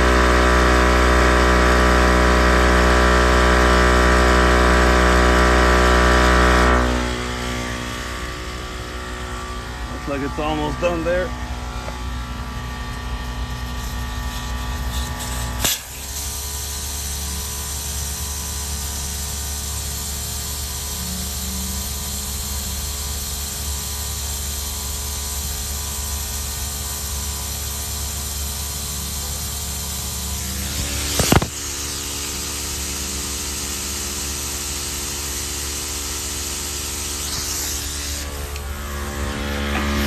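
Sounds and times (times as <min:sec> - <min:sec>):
air compressor running: 0:00.0 - 0:40.0.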